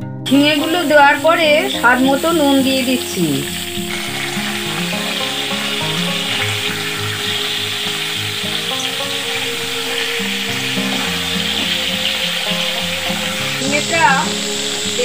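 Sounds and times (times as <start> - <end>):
vegetables sizzling in oil: 0.3 - 15.0.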